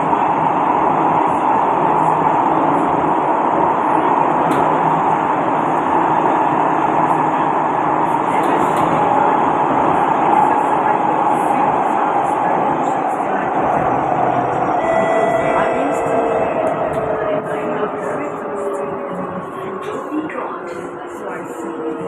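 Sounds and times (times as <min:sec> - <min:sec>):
high whine of train: 0:00.0 - 0:22.0
metro train rumbling in tunnel: 0:00.0 - 0:22.0.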